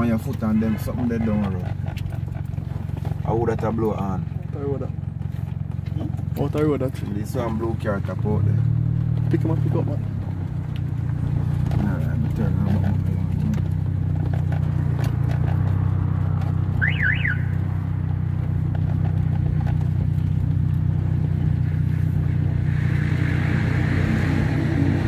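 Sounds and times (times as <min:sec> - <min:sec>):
car engine humming: 0:00.0 - 0:25.0.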